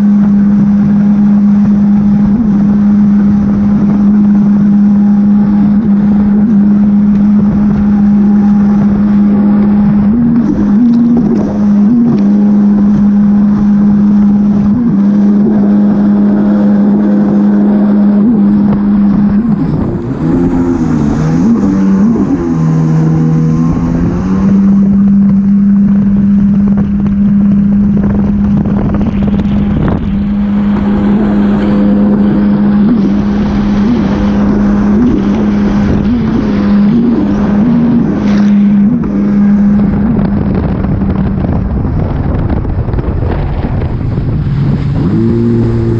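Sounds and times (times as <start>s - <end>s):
jet ski engine running: 0.0s - 45.9s
rushing water: 0.0s - 45.9s.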